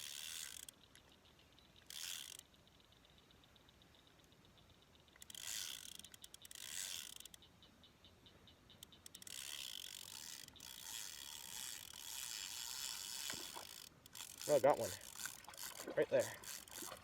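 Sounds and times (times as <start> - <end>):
fishing reel clicking: 0.0 - 1.2, 1.8 - 7.5, 8.7 - 17.0.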